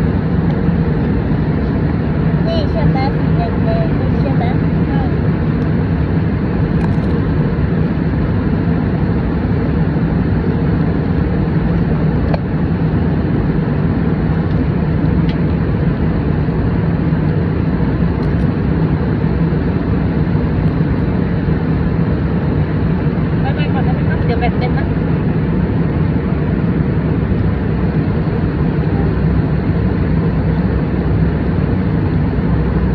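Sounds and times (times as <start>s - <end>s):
airliner cabin rumble: 0.0s - 32.9s.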